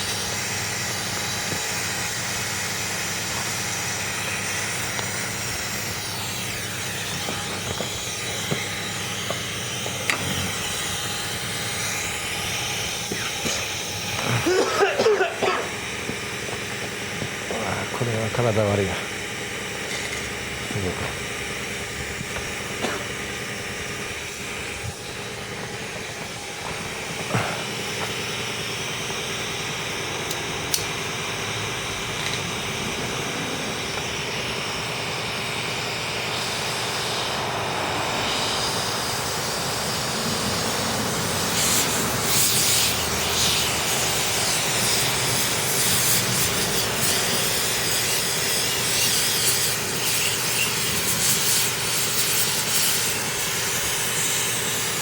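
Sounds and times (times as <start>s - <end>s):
jet-like rushing hiss of flame: 0.0s - 55.0s.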